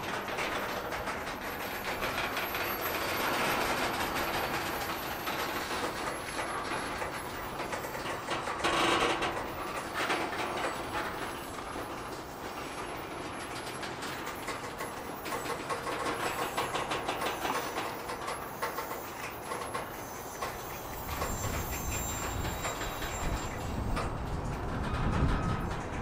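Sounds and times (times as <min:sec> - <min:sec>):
train wheels rumbling: 0:00.0 - 0:26.0
wheels clicking over rail joints: 0:00.0 - 0:26.0.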